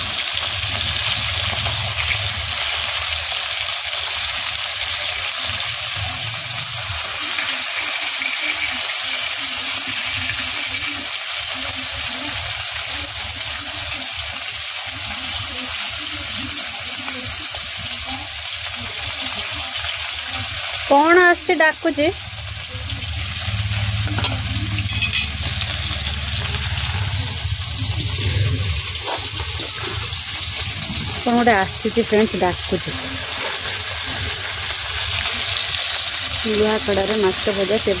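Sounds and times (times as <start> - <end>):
fish sizzling in hot oil: 0.0 - 38.0.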